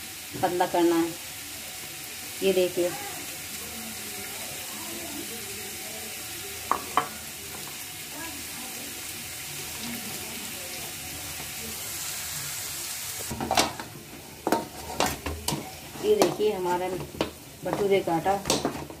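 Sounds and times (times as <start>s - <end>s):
onion paste sizzling in oil: 0.0s - 19.0s.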